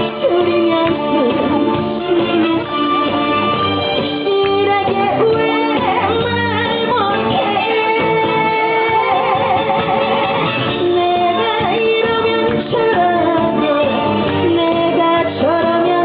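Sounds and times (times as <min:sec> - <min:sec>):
woman singing with vibrato: 0:00.0 - 0:03.4, 0:04.2 - 0:16.0
backing track: 0:00.0 - 0:16.0.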